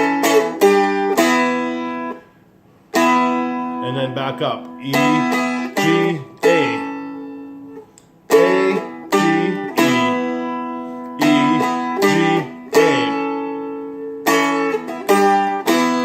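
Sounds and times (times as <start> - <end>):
stick dulcimer strummed chords: 0.0 - 2.2, 3.0 - 16.0.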